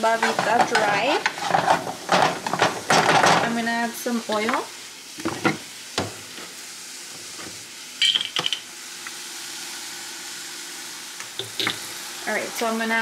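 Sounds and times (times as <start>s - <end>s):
vegetables sizzling in frying pan: 0.0s - 13.0s.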